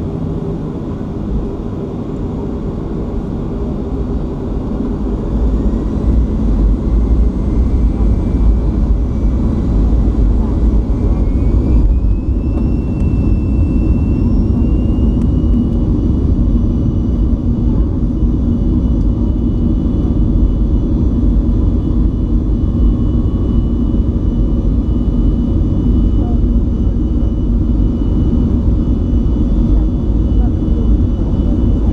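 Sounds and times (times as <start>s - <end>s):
jet engines rumbling and whining: 0.0s - 31.9s.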